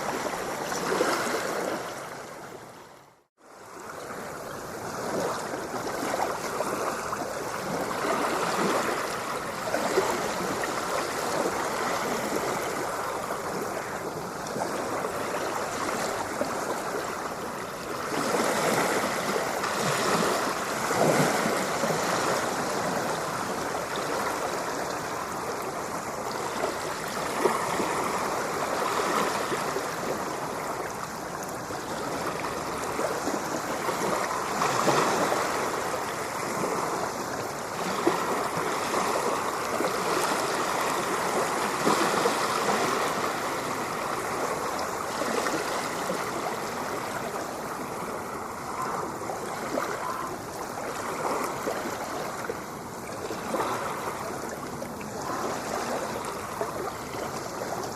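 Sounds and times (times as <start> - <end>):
ocean water washing and splashing: 0.0 - 57.9.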